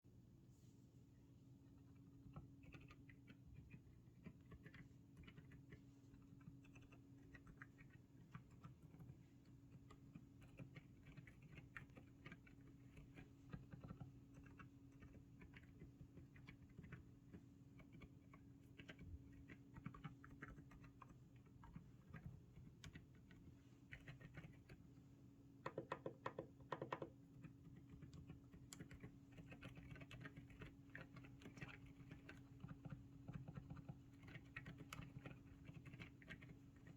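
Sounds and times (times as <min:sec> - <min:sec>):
quiet keyboard keystrokes: 0:01.8 - 0:36.9.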